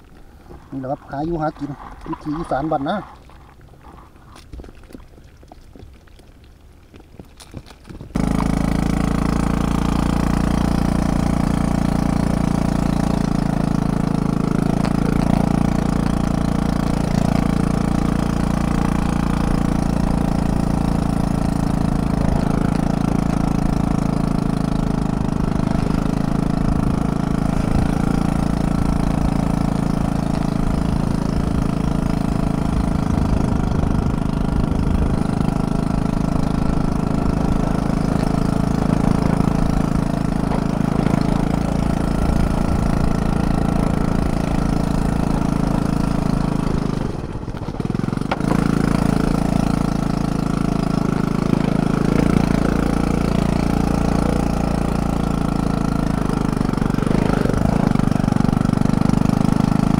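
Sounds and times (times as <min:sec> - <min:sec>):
small vehicle engine running: 0:00.0 - 0:05.5, 0:07.4 - 0:59.9.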